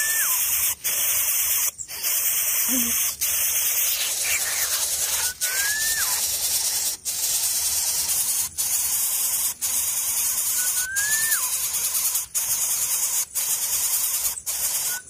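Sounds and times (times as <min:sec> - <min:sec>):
bird whistled call: 0:00.0 - 0:06.9, 0:09.3 - 0:15.0
steady hiss: 0:00.0 - 0:15.0.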